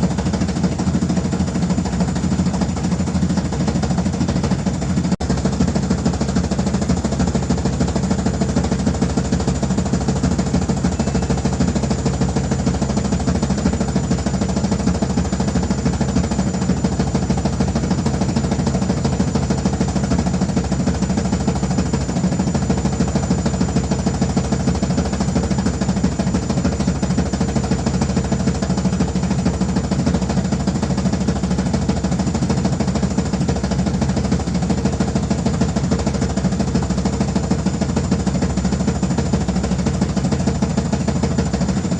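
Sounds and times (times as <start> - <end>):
washing machine motor hum: 0.0 - 41.9.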